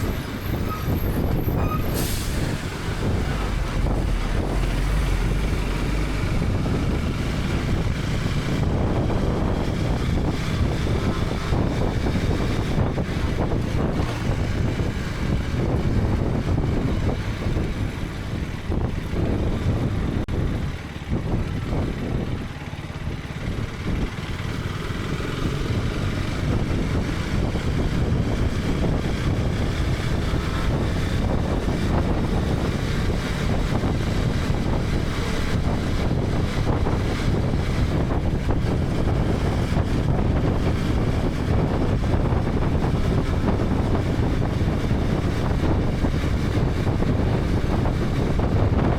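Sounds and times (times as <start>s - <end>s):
wind buffeting microphone: 0.0s - 48.9s
motorcycle engine running: 2.7s - 48.9s.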